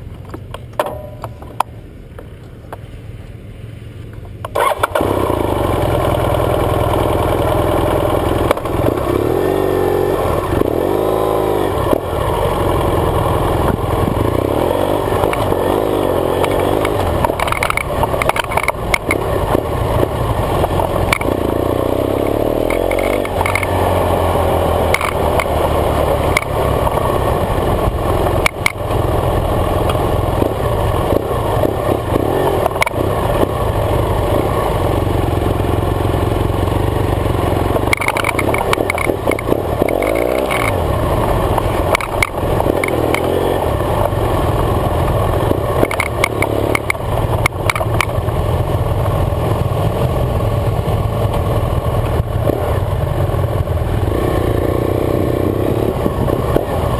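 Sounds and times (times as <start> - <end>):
motorcycle engine revving: 4.4 - 56.9.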